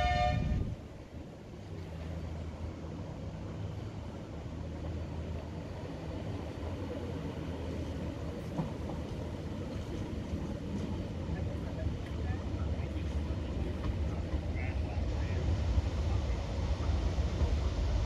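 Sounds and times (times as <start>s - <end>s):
train engines droning: 0.0s - 18.0s.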